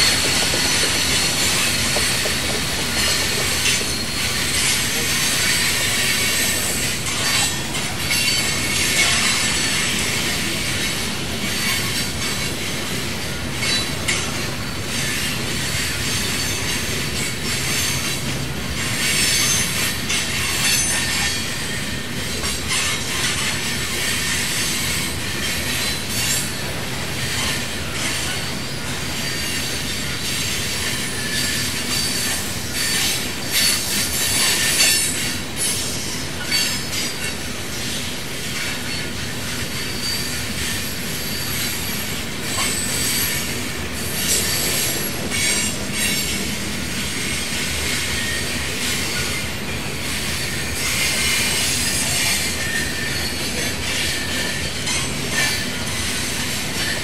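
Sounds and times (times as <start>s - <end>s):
train cars rumbling past: 0.0s - 57.0s
wheel squeal against rails: 0.0s - 57.0s.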